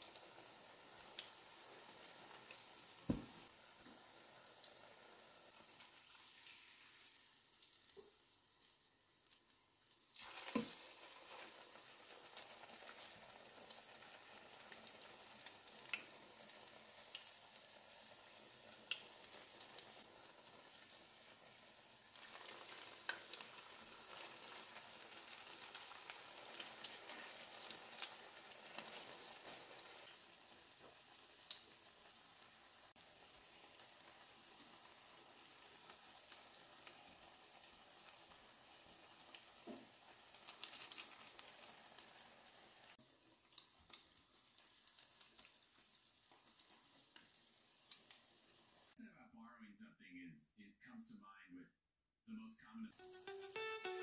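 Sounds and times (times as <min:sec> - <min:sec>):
fritters sizzling in oil: 0:00.0 - 0:49.0.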